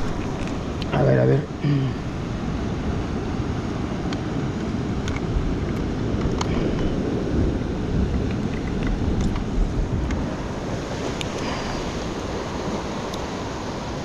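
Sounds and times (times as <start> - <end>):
ocean surf rumble: 0.0 - 14.0
wind buffeting microphone: 0.0 - 14.0.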